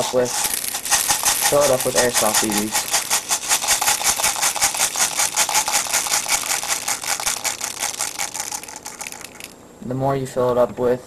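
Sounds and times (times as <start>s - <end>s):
plastic pellets pouring into plastic: 0.0s - 9.6s.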